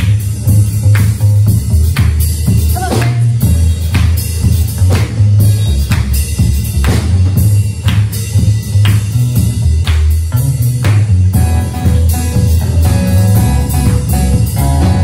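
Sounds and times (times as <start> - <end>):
band music with drums: 0.0 - 15.0.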